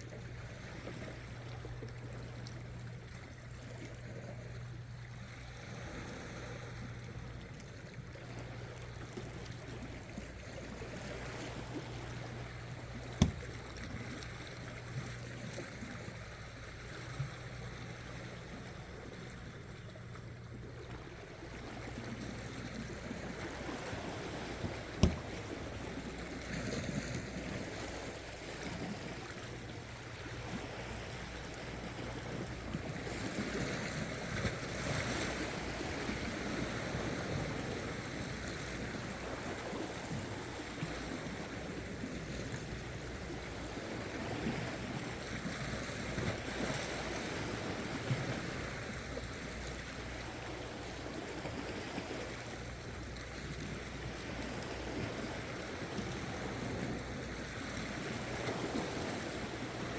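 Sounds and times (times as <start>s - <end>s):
water lapping against rocks: 0.0s - 59.9s.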